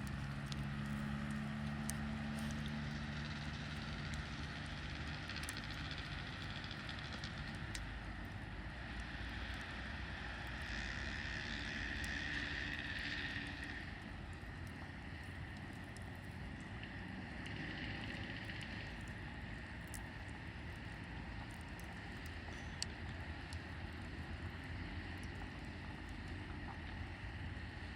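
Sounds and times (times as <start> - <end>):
wood crackling and popping: 0.0 - 27.1
campfire hissing: 0.0 - 27.9.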